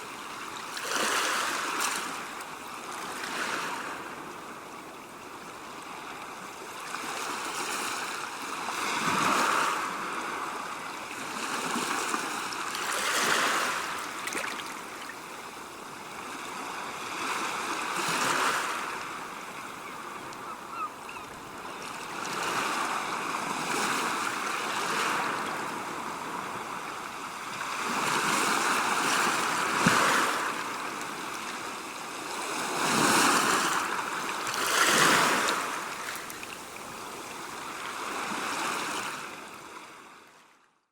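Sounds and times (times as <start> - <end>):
sea waves washing ashore: 5.8 - 40.2.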